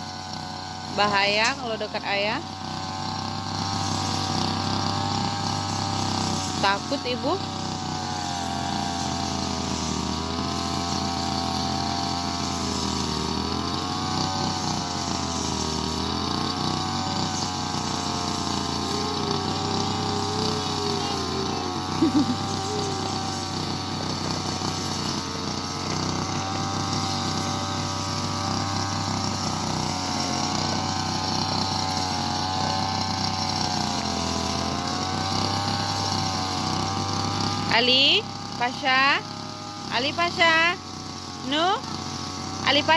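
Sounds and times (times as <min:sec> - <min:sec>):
brush cutter engine running: 0:00.0 - 0:42.9.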